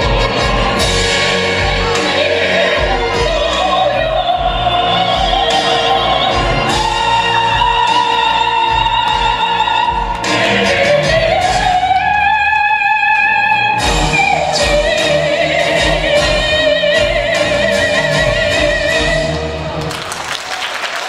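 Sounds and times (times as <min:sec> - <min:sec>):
person singing operatically: 0:00.0 - 0:19.4.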